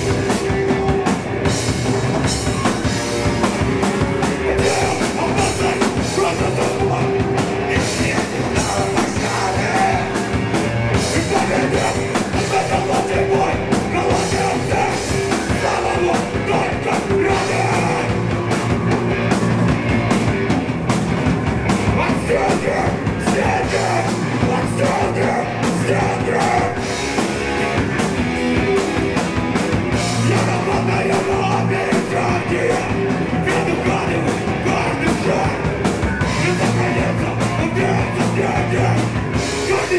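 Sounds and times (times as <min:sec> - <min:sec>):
bass guitar: 0:00.0 - 0:39.9
distorted electric guitars: 0:00.0 - 0:39.9.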